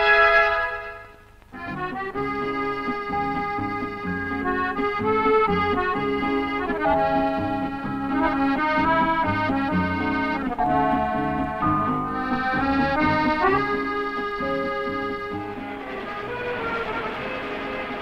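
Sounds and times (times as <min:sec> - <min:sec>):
accordion music: 0:00.0 - 0:18.0.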